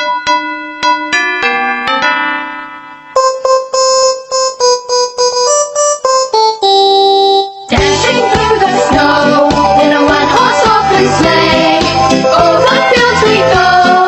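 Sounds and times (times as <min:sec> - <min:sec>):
plucky keyboard melody: 0:00.0 - 0:14.0.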